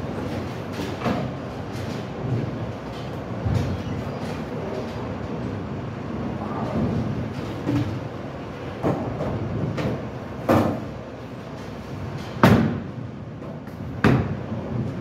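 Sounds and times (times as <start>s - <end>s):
low rumble of rolling balls: 0.0s - 15.0s.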